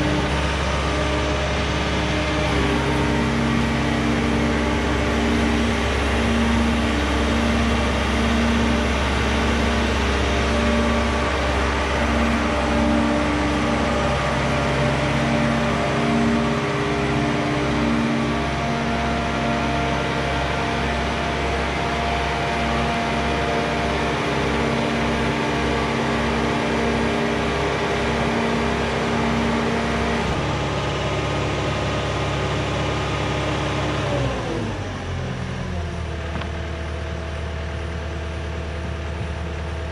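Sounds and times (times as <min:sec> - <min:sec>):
hoist engine and hydraulics running: 0:00.0 - 0:39.9.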